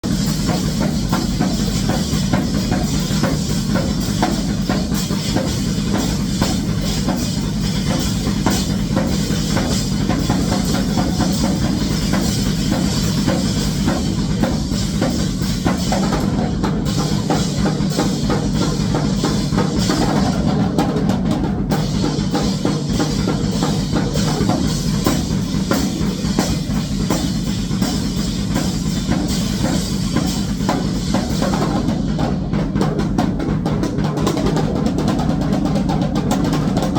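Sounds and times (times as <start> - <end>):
fast drum and cymbal hits: 0.0 - 36.9.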